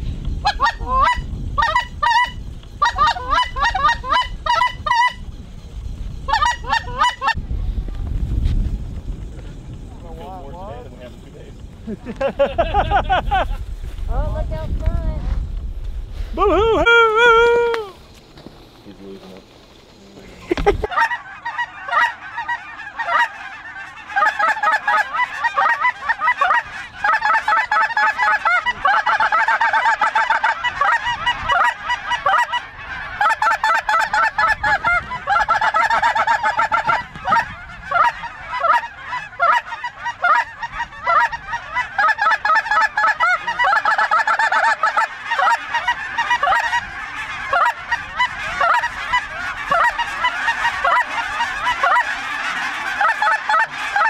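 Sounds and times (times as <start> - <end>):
geese honking: 0.3 - 7.4, 16.4 - 54.0.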